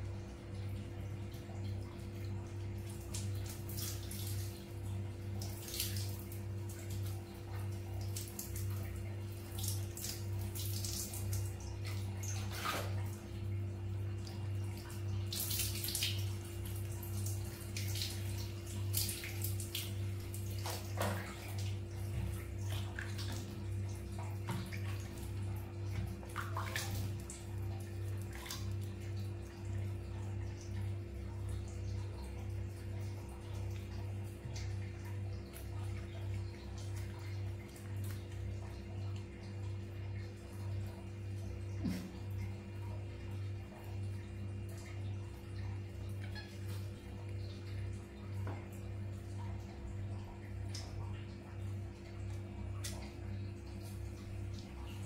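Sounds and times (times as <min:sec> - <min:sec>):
steady low hum: 0:00.0 - 0:55.0
water splashing and trickling: 0:00.0 - 0:55.0.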